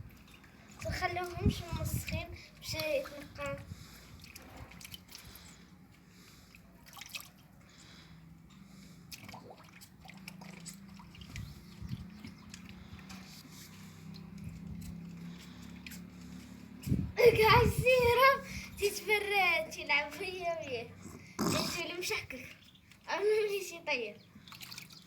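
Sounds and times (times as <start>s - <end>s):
water dripping and splashing: 0.0s - 25.0s.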